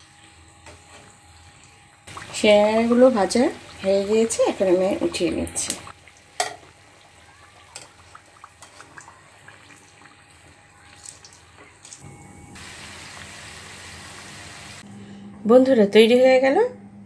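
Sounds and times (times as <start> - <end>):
food sizzling in hot oil: 0.0 - 14.8.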